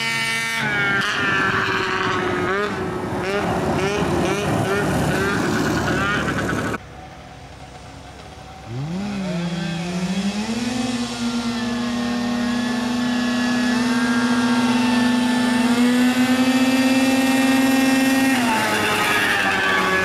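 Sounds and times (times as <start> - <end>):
atv engines revving: 0.0 - 20.0.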